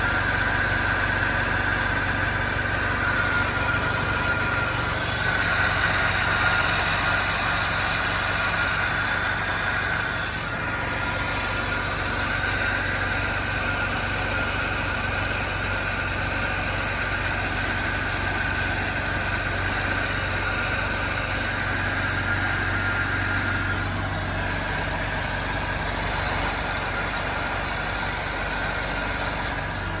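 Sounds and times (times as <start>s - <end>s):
fast light engine ticking: 0.0s - 30.0s
high-pitched engine whine: 0.0s - 30.0s
low engine hum: 0.0s - 30.0s.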